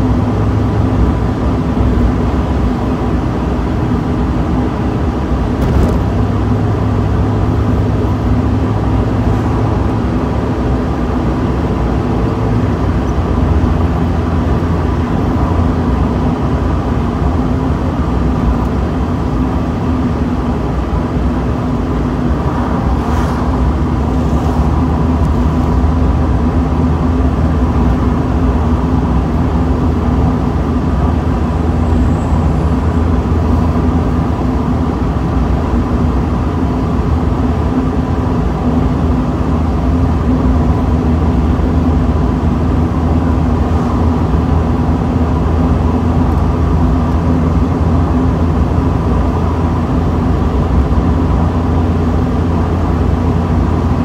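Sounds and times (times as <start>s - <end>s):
car engine cruising: 0.0s - 54.0s
road noise: 0.0s - 54.0s.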